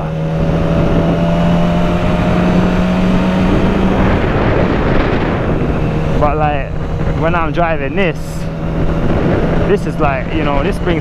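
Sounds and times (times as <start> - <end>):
motorcycle engine running: 0.0 - 11.0
wind rushing: 0.0 - 11.0.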